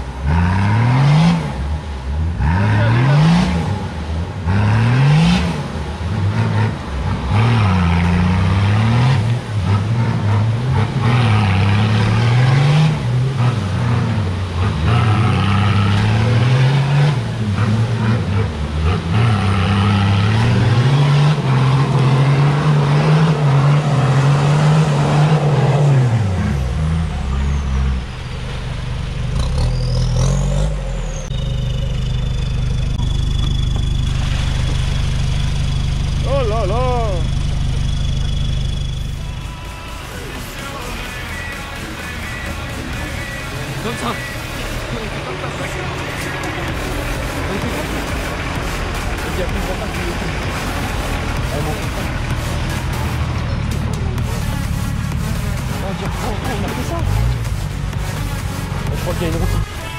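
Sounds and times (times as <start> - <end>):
off-road engine revving: 0.0 - 59.9.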